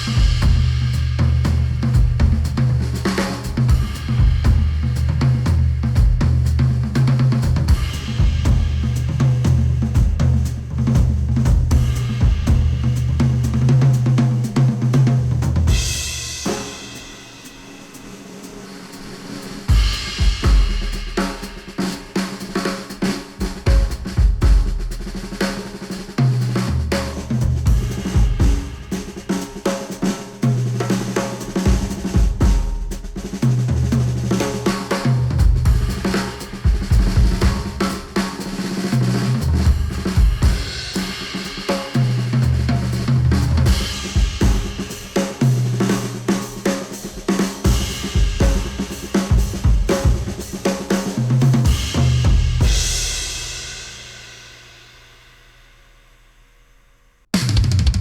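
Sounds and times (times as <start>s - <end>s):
instrumental music with drums and bass: 0.0s - 56.5s, 57.3s - 58.0s.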